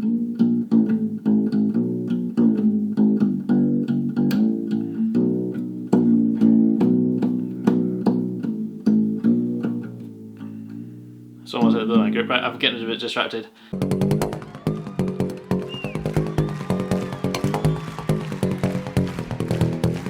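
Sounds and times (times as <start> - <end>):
detuned guitar riff plucked and slapped: 0.0 - 12.5, 13.7 - 20.0.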